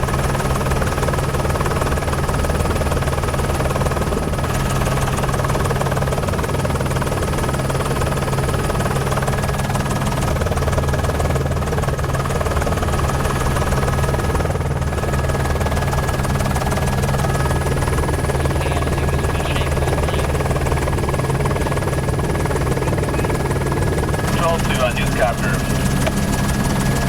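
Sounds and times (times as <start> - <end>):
helicopter engine and rotor drone: 0.0 - 27.0.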